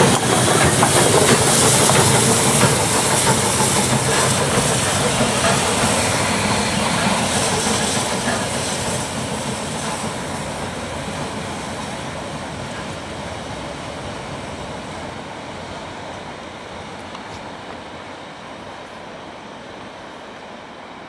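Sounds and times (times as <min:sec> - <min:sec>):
steam train passing: 0:00.0 - 0:21.0.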